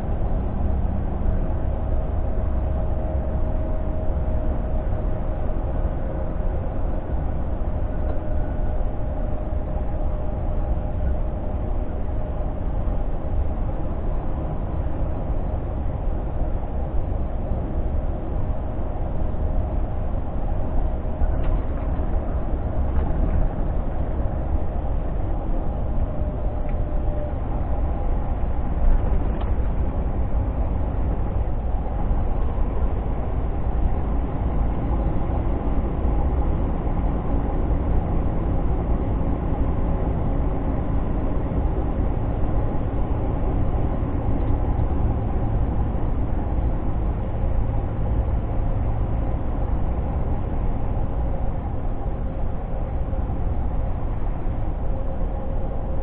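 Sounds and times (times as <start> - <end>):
diesel engine rumble: 0.0 - 56.0
road noise: 0.0 - 56.0.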